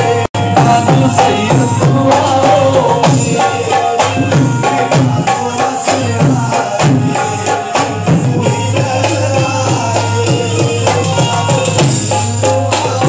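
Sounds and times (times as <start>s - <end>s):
hand drum steady beat: 0.0s - 13.0s.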